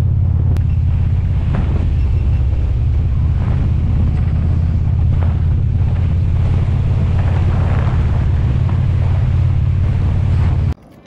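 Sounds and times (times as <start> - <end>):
motorcycle engine running: 0.0 - 10.8
wind on microphone: 0.0 - 10.8.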